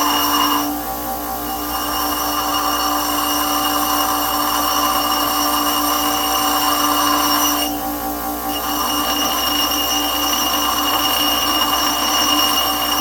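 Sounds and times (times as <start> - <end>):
power grinder grinding metal: 0.0 - 0.8, 1.4 - 7.8, 8.5 - 13.0.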